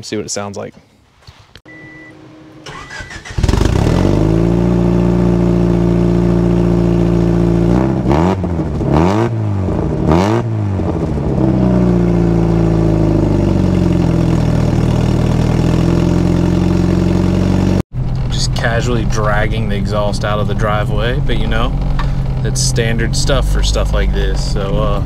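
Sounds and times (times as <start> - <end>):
car engine starting and idling: 1.7 - 25.0
engine revving: 2.0 - 25.0.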